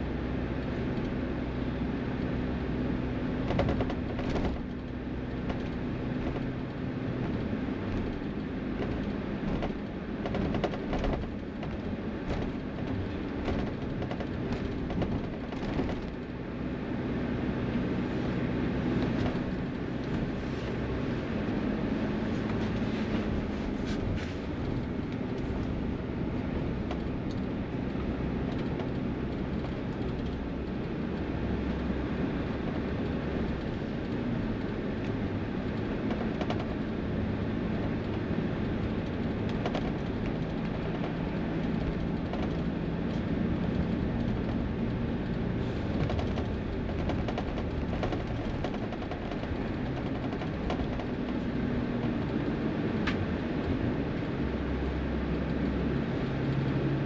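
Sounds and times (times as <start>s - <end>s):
highway traffic rumble: 0.0s - 57.0s.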